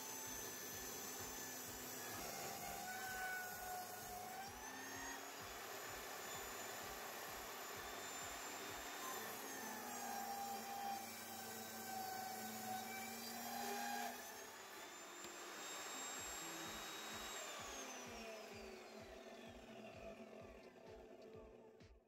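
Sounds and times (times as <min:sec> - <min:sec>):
table saw cutting timber: 0:00.0 - 0:21.6.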